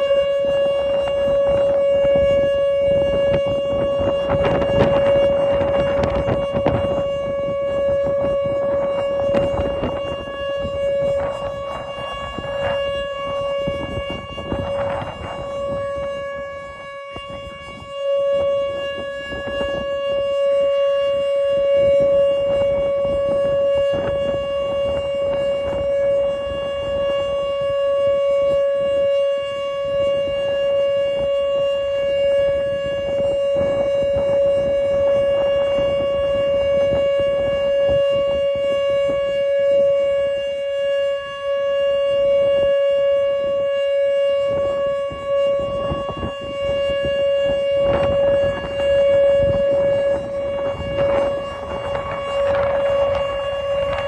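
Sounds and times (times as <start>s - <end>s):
warning siren steady tone: 0.0s - 54.0s
wind buffeting microphone: 0.0s - 54.0s.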